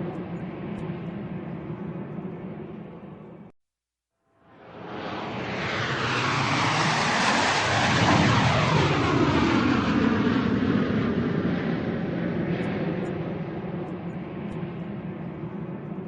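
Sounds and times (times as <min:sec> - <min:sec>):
airplane flying overhead: 0:00.0 - 0:03.5, 0:04.4 - 0:16.0.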